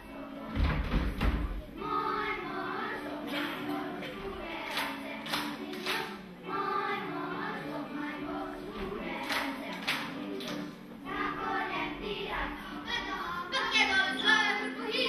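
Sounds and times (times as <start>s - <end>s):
children singing a folk song: 0.0s - 15.0s.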